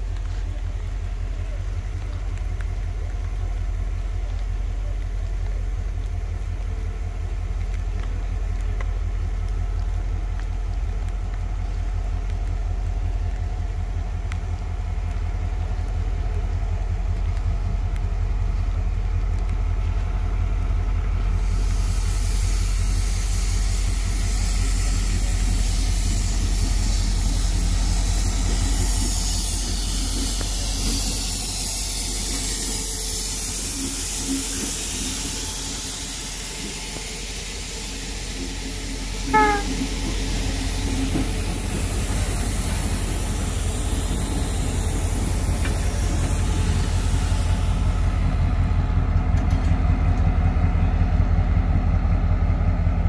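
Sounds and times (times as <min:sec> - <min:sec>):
heavy rain hissing: 0:00.0 - 0:49.3
diesel locomotive engine throbbing: 0:00.0 - 0:53.0.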